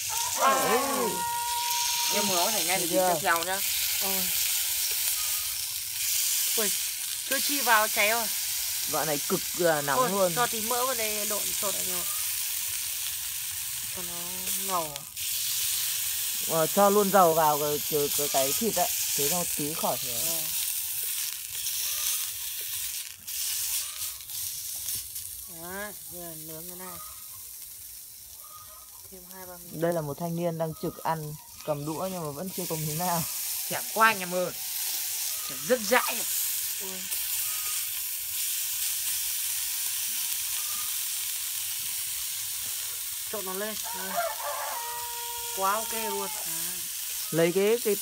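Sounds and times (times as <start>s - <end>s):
oil and meat sizzling: 0.0s - 48.0s.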